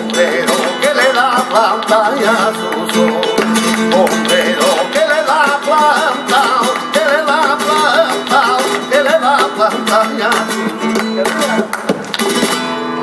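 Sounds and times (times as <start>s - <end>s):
man singing: 0.0s - 11.8s
hand-clapping: 0.0s - 12.6s
acoustic guitar: 0.0s - 13.0s.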